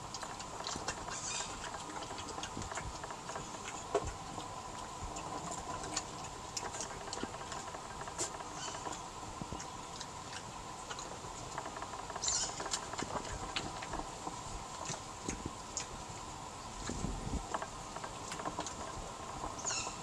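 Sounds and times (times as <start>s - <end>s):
animals crunching nuts: 0.0s - 16.1s, 16.8s - 20.0s
faint steady hum: 0.0s - 20.0s.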